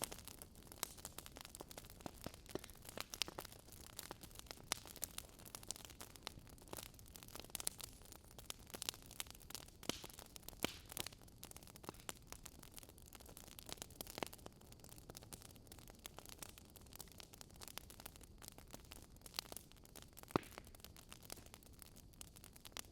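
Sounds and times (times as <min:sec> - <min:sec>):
campfire crackling and popping: 0:00.0 - 0:22.9
soft low fire hiss: 0:00.0 - 0:22.9.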